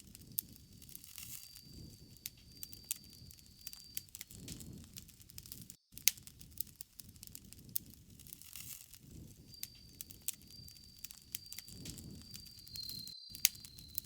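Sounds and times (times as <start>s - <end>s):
flames rushing: 0.0s - 13.9s
campfire crackling: 0.0s - 14.0s.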